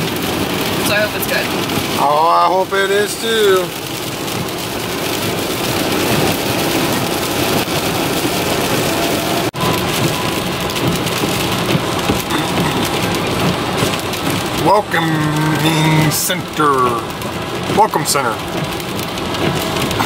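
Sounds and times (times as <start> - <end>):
rain hiss: 0.0 - 20.0
tyres on wet road: 0.0 - 20.0.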